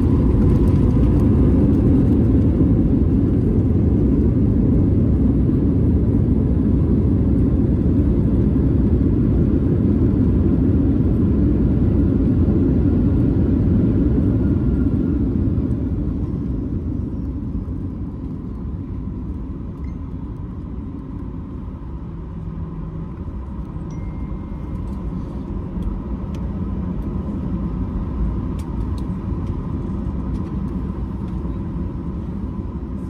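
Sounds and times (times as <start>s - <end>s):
airliner engines and wheels rumbling: 0.0s - 33.0s.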